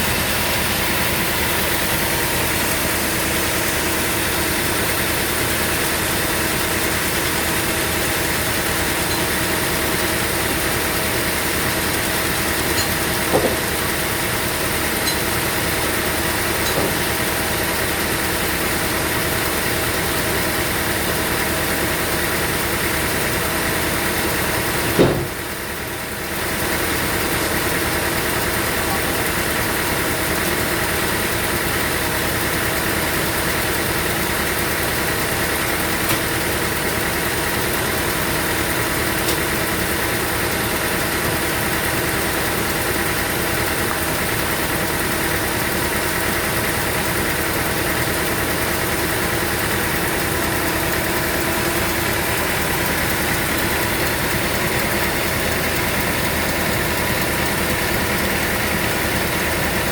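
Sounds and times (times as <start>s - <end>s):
sawmill engine humming: 0.0s - 59.9s.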